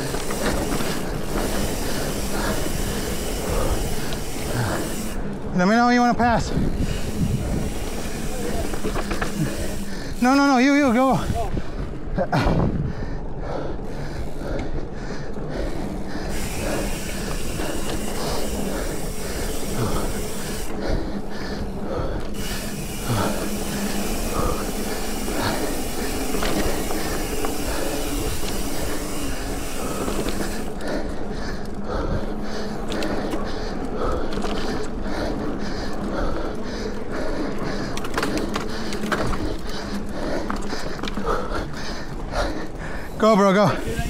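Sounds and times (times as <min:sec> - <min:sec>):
road noise: 0:00.0 - 0:44.0
rushing wind: 0:00.0 - 0:44.0.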